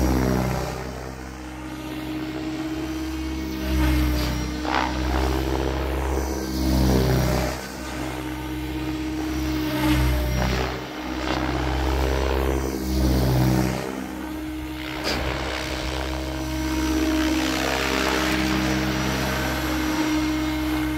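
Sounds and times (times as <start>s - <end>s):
rotor and drive hum: 0.0s - 20.9s
rotor blades whooshing: 0.0s - 20.9s.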